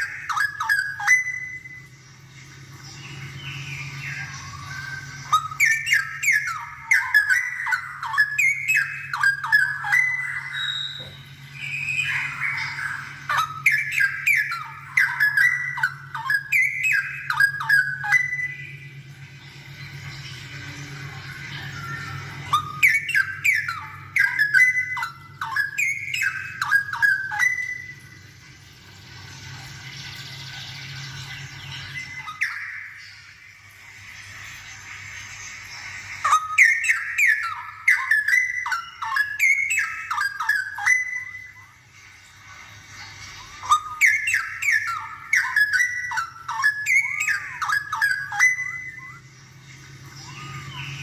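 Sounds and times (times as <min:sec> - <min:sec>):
bird singing whistled notes: 0:00.0 - 0:02.2, 0:02.8 - 0:28.3, 0:30.5 - 0:33.5, 0:36.2 - 0:41.9, 0:43.4 - 0:51.0.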